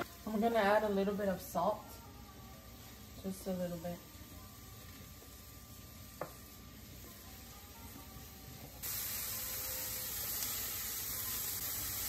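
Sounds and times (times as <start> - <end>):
mushrooms sizzling in a pan: 0.0 - 12.0.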